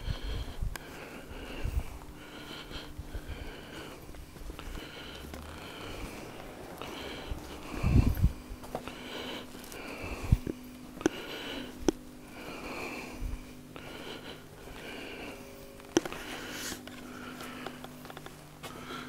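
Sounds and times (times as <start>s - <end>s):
breathing through the nose: 0.0s - 19.0s
faint low hum: 0.0s - 19.0s.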